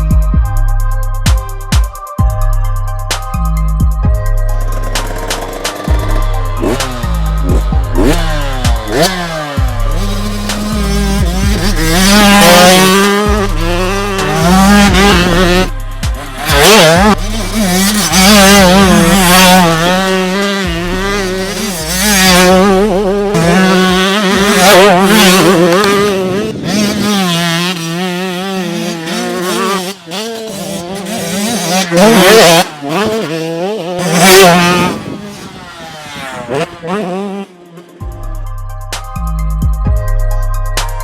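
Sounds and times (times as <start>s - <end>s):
motocross bike engine revving: 4.5s - 38.1s.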